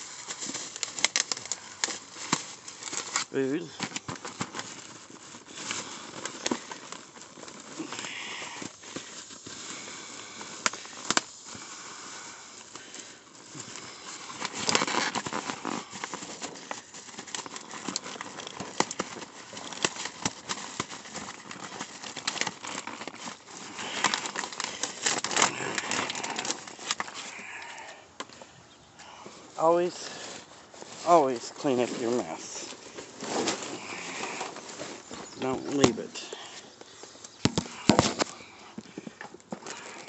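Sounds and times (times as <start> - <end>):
plastic bags crinkling: 0.0 - 40.0.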